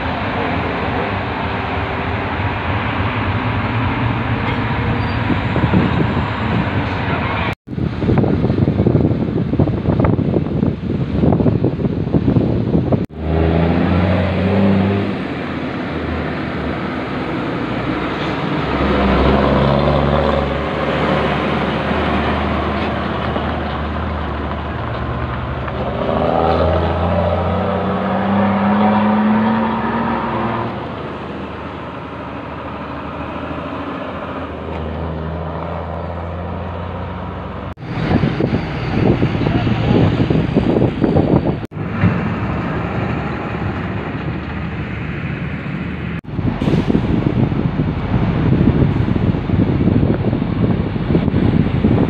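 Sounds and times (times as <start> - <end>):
dump truck diesel engine: 0.0 - 11.1, 12.9 - 52.0.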